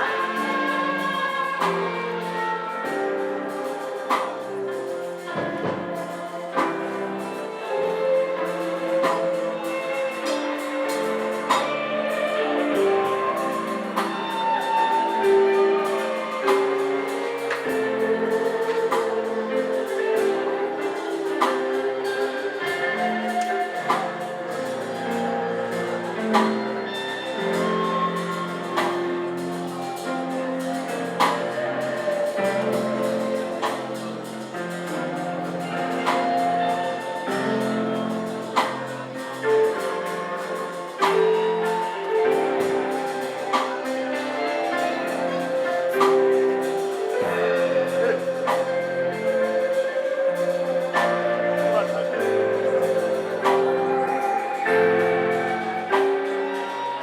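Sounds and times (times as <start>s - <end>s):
steady drum beat: 0.0s - 57.0s
sustained keyboard chords: 0.0s - 57.0s.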